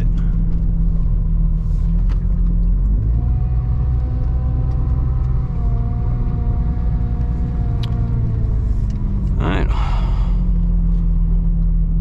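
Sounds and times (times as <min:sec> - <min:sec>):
car engine and road noise drone: 0:00.0 - 0:12.0.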